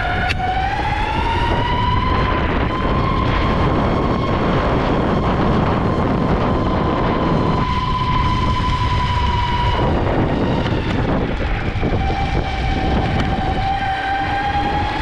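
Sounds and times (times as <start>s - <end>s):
electric skateboard motors whining: 0.0s - 15.0s
wind and wheels rumbling on asphalt: 0.0s - 15.0s.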